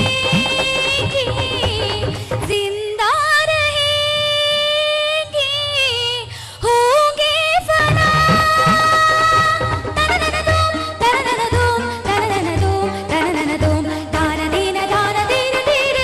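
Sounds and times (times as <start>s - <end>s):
woman singing into microphone: 0.0s - 16.0s.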